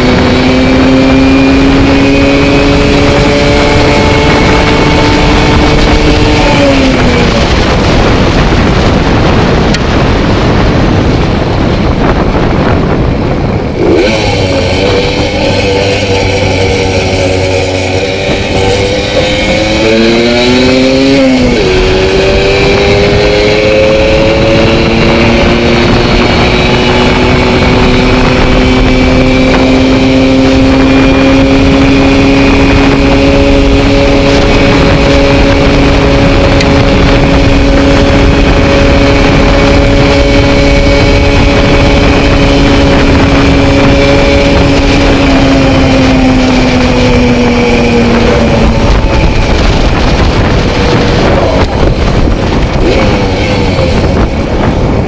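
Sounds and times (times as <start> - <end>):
moped engine revving hard: 0.0 - 55.0.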